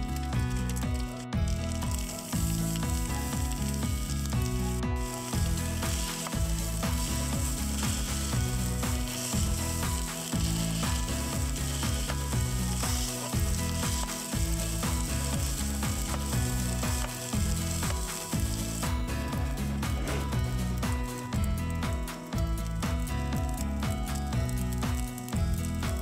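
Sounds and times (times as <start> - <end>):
background music with bass line: 0.0 - 26.0
rice sizzling in oil: 0.0 - 26.0.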